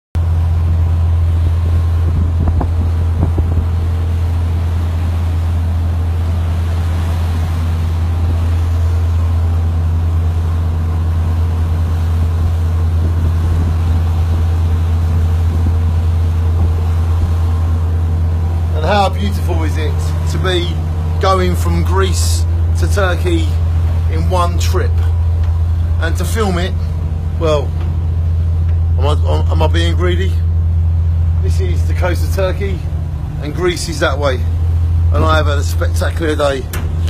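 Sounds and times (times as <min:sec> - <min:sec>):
boat engine drone: 0:00.2 - 0:37.0
water noise: 0:00.2 - 0:37.0
wind: 0:00.2 - 0:37.0.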